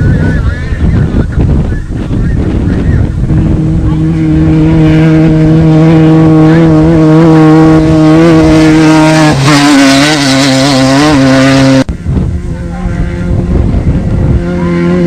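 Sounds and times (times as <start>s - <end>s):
race vehicle engine running hard: 0.0s - 15.0s.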